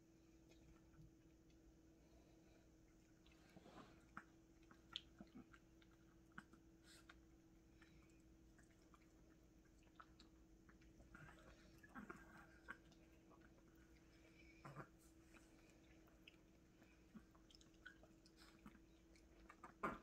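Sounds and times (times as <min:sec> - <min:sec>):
low steady hum: 0:00.0 - 0:20.0
dogs chewing: 0:03.1 - 0:20.0.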